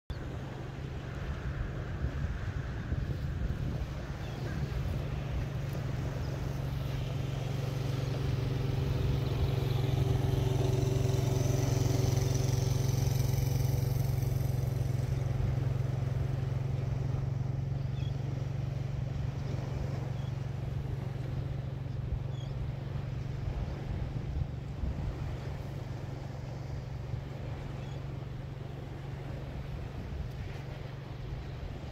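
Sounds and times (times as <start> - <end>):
steady low rumble: 0.1 - 31.9
atv engine running: 0.2 - 31.9.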